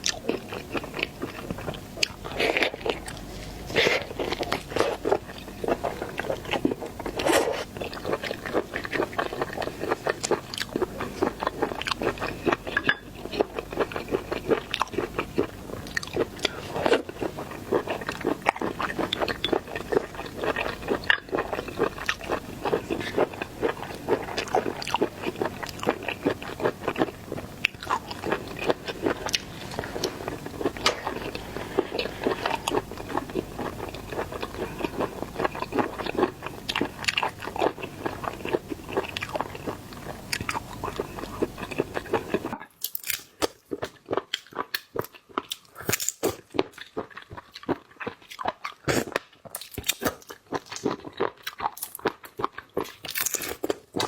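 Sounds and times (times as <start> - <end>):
crunching and chewing shellfish: 0.0 - 54.0.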